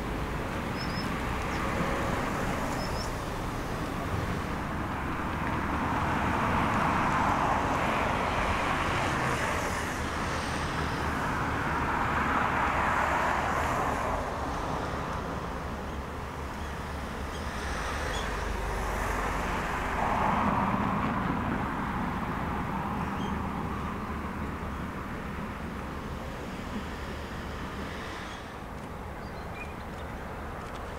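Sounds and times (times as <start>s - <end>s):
distant road traffic hum: 0.0s - 30.9s.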